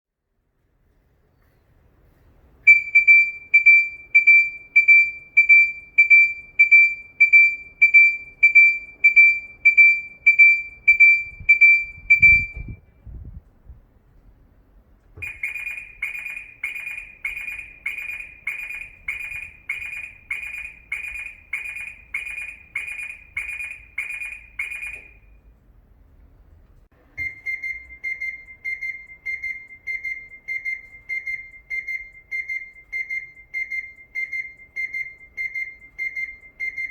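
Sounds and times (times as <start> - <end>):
buzzy alarm beeps: 2.7 - 12.8, 15.2 - 25.4, 27.2 - 36.9
high clean alarm beeps: 2.7 - 12.8, 15.2 - 25.4, 27.2 - 36.9
lower faint alarm beeps: 2.7 - 12.9, 15.2 - 25.6, 27.1 - 36.9.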